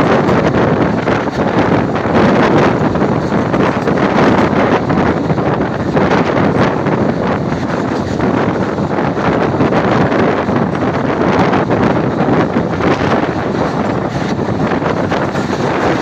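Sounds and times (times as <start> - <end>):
passenger train running: 0.0 - 16.0
wind on microphone: 0.0 - 16.0.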